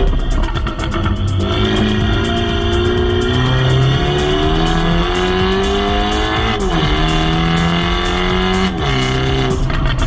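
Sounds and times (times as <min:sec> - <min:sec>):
car exhaust accelerating: 0:00.0 - 0:10.0.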